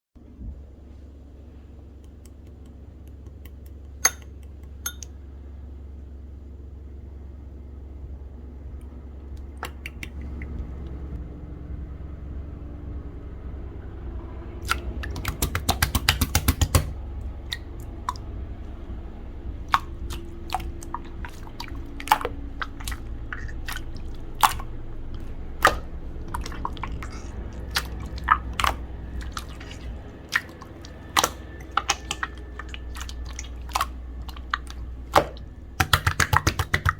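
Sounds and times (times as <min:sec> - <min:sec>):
low steady hum: 0:00.2 - 0:36.9.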